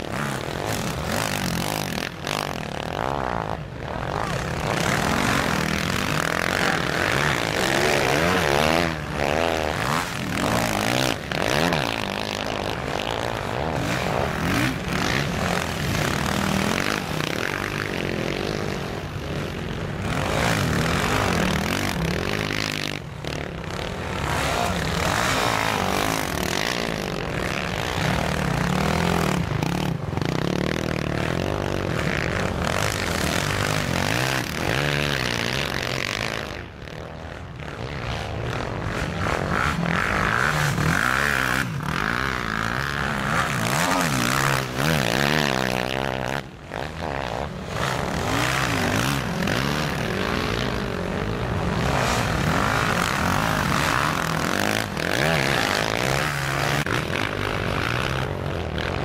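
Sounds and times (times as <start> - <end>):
quad bike engines revving: 0.0 - 59.0.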